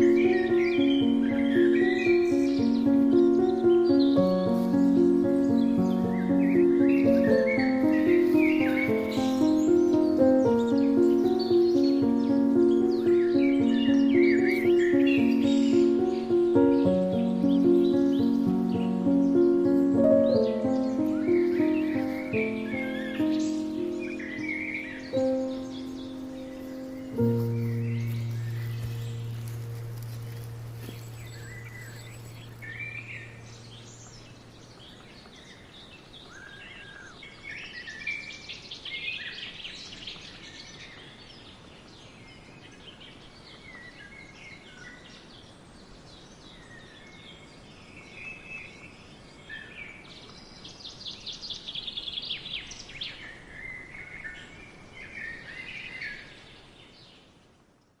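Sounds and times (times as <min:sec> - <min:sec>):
small birds chirping and singing: 0:00.0 - 0:57.4
faint steady hiss: 0:00.0 - 0:57.9.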